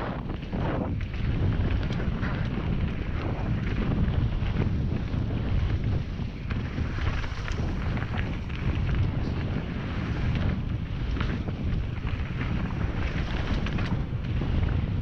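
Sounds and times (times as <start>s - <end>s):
bike clicks and rattles: 0.0s - 15.0s
bike tyre rumble: 0.0s - 15.0s
wind buffeting microphone: 0.0s - 15.0s.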